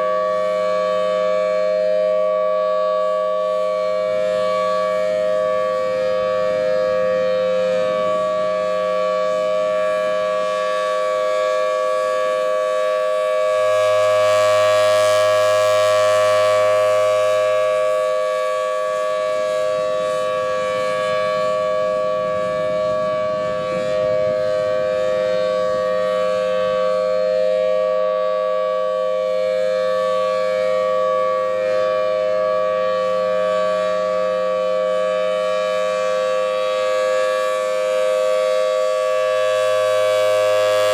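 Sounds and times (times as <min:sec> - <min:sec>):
two-tone siren: 0:00.0 - 0:40.9.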